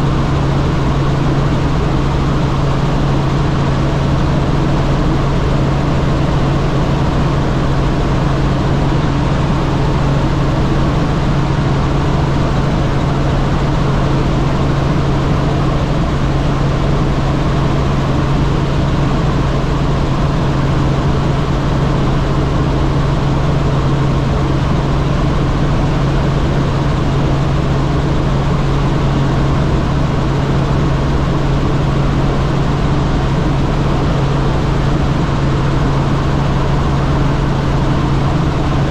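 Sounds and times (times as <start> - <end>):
helicopter engine and rotors drone: 0.0 - 38.9.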